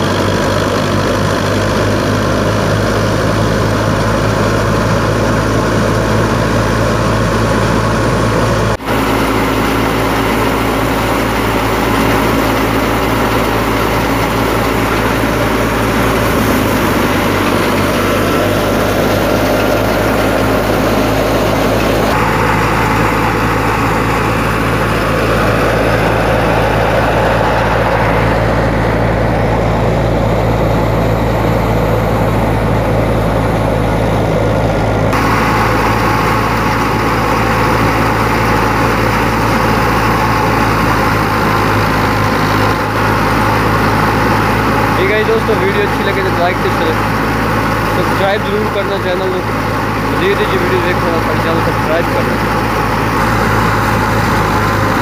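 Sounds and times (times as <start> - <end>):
thresher running: 0.0 - 55.0
tractor diesel engine running: 0.0 - 55.0.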